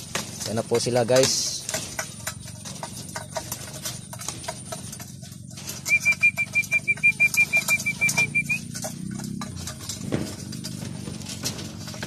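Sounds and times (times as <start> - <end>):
pigeons pecking metal trough: 0.0 - 12.0.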